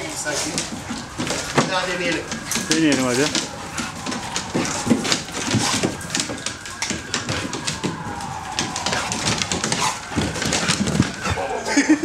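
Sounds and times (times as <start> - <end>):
low scuffling noises: 0.0 - 12.0
dog claws scrabbling on wood: 0.3 - 11.6.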